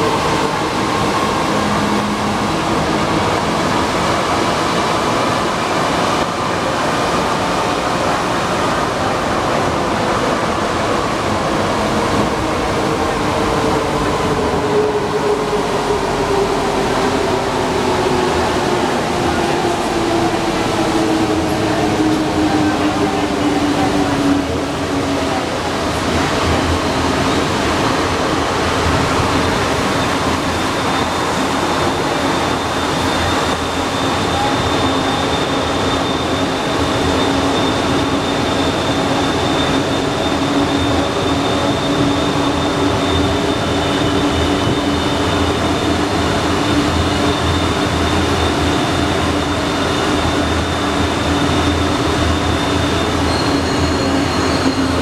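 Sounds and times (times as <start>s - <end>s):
metro train rumbling and whining: 0.0s - 55.0s.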